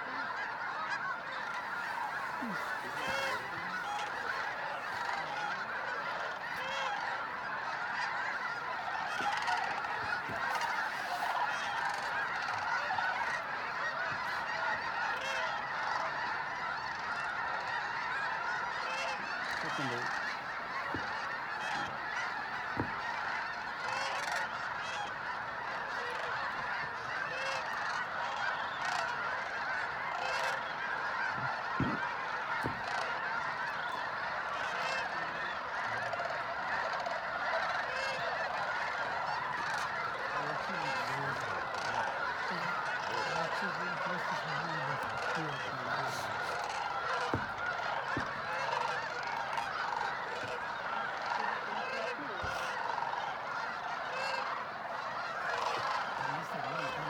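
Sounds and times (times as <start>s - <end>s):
geese honking: 0.0s - 57.0s.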